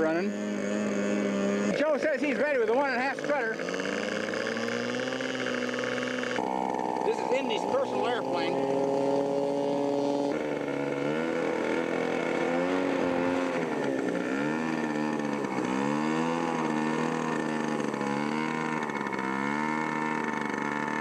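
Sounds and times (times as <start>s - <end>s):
model airplane engine running: 0.0s - 21.0s.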